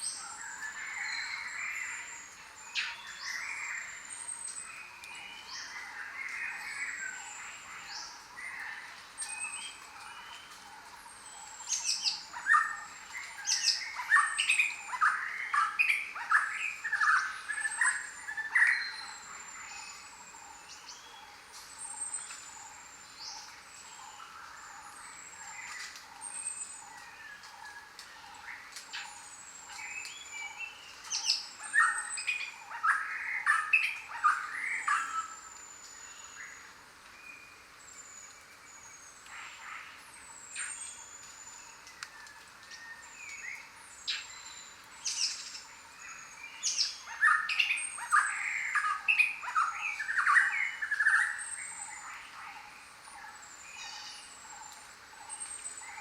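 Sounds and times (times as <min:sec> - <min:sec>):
jungle birds calling and whistling: 0:00.0 - 0:56.0.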